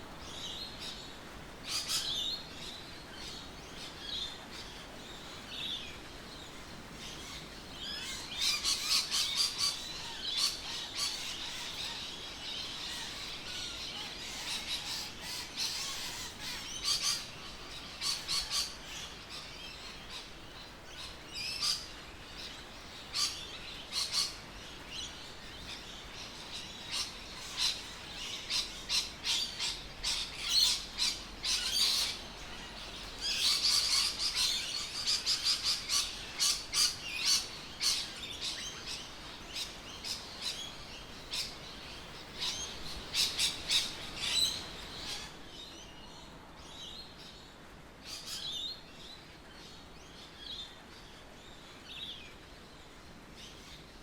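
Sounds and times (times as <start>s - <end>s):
birds chirping: 0.0s - 47.4s.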